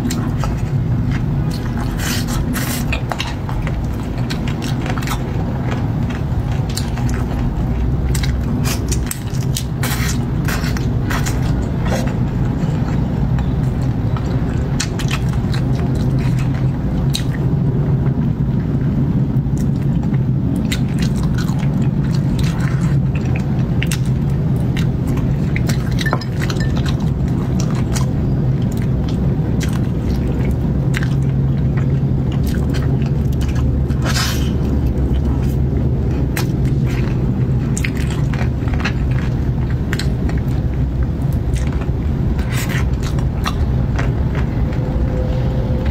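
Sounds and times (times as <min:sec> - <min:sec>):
steady low hum: 0:00.0 - 0:45.9
wet chewing and crunching: 0:00.0 - 0:45.9.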